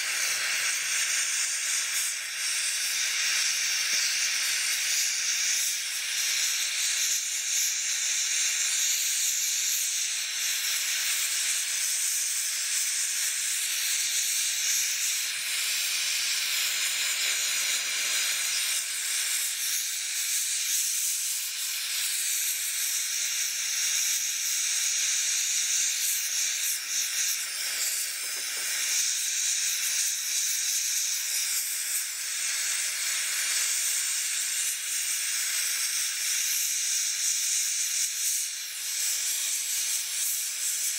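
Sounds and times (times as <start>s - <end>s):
gas torch hissing: 0.0s - 40.9s.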